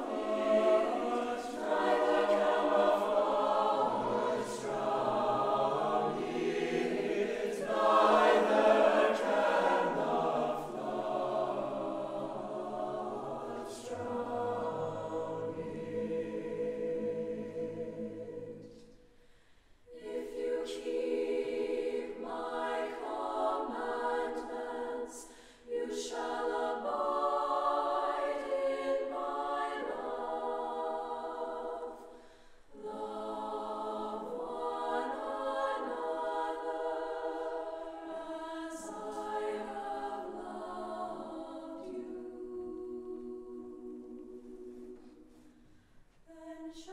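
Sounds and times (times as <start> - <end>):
mixed choir singing: 0.0 - 19.0, 19.9 - 45.6.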